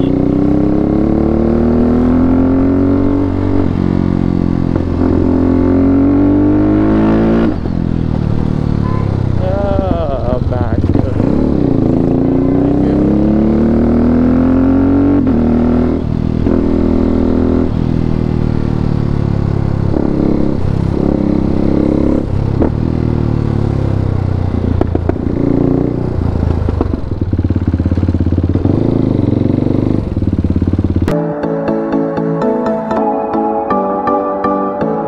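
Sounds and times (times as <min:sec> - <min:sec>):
motorcycle engine revving: 0:00.0 - 0:31.2.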